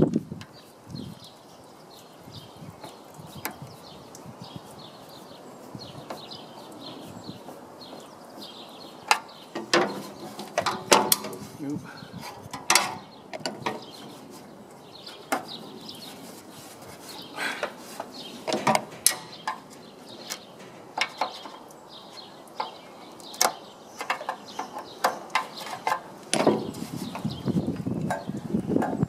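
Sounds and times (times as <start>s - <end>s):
rubber hose rubbing: 0.0s - 22.8s, 23.4s - 29.0s.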